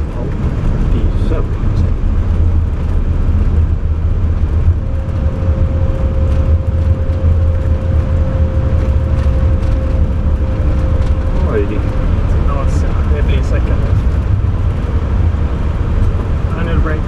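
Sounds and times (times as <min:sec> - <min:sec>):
airliner rumble on runway: 0:00.0 - 0:17.0.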